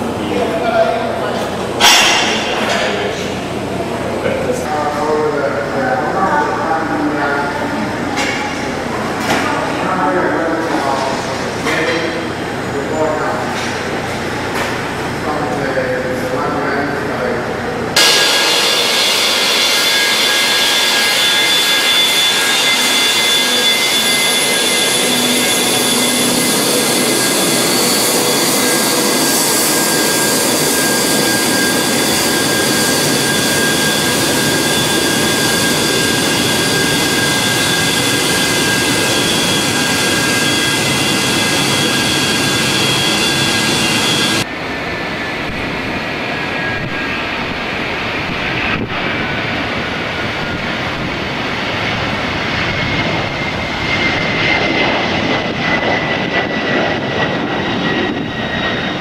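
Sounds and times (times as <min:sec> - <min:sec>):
jet accelerating on take-off roll: 0:00.0 - 0:59.0
jet engine roar: 0:00.0 - 0:59.0
jet engines whining: 0:00.0 - 0:59.0.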